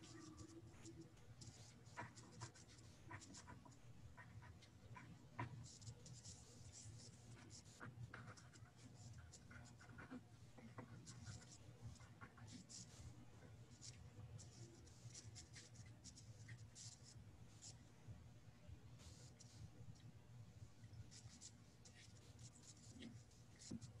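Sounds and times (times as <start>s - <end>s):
pen scratching on paper: 0.0s - 13.1s, 13.7s - 17.8s, 21.1s - 24.0s.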